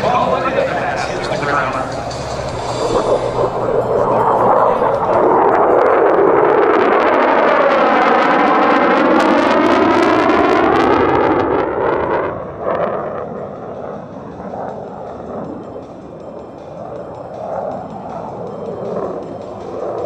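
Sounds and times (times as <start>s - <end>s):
jet flying past: 0.0s - 20.0s.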